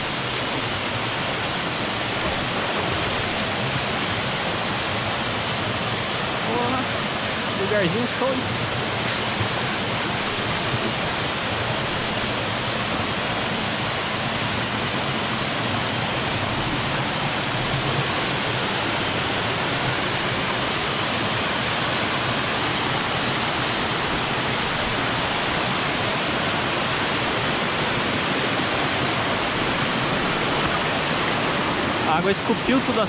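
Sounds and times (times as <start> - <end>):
waterfall cascading over rock: 0.0 - 33.0.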